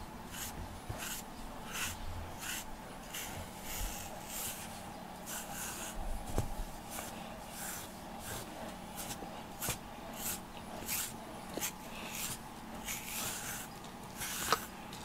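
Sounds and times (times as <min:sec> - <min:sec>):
brush swishing through fur: 0:00.3 - 0:14.7.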